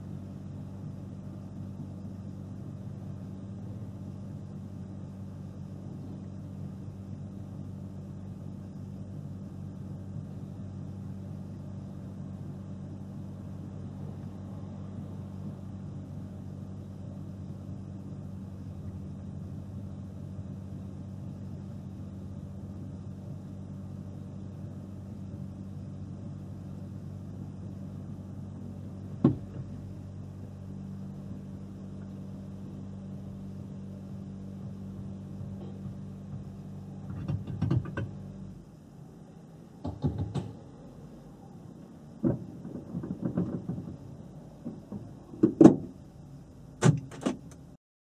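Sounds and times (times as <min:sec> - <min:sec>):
car engine idling: 0:00.0 - 0:47.8.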